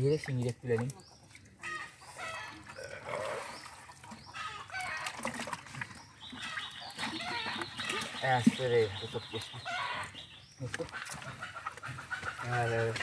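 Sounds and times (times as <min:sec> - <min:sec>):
chickens clucking: 0:00.8 - 0:13.0.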